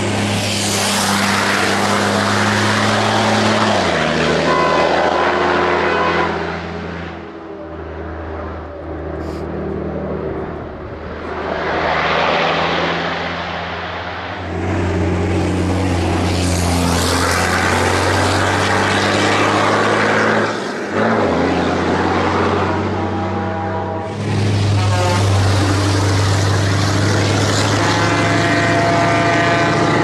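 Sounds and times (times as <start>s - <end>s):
heavy diesel truck engine: 0.0s - 30.0s.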